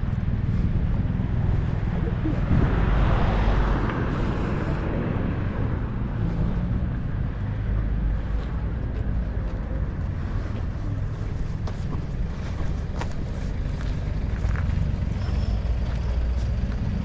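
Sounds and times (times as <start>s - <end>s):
road traffic hum: 0.0s - 17.0s
wind buffeting microphone: 0.0s - 17.0s.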